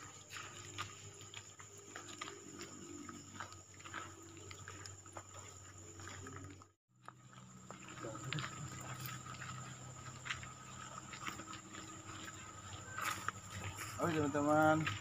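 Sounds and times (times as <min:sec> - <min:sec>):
footsteps on weeds and gravel: 0:00.0 - 0:15.0.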